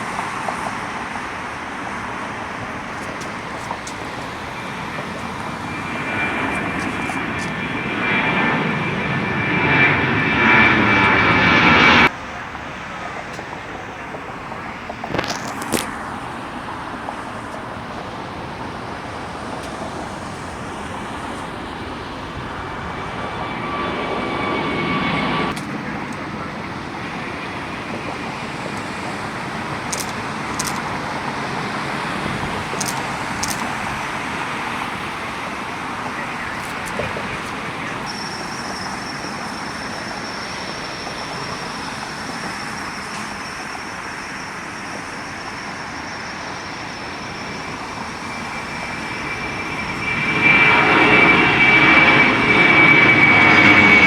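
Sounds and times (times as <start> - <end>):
jet engine rushing: 0.0 - 54.0.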